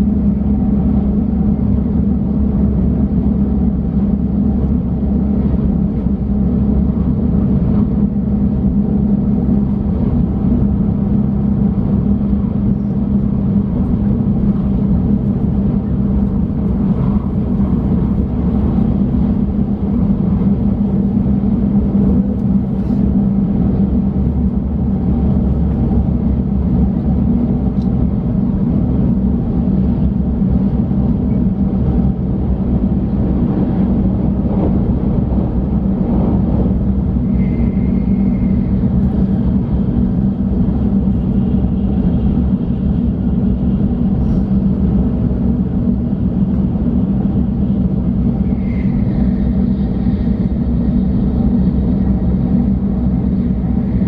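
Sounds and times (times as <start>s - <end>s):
train cabin rumble and hum: 0.0s - 54.0s.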